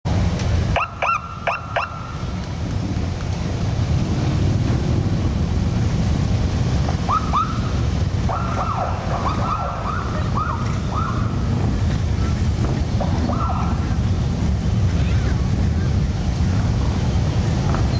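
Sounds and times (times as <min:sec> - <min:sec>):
motorcycle engines rumbling: 0:00.1 - 0:17.9.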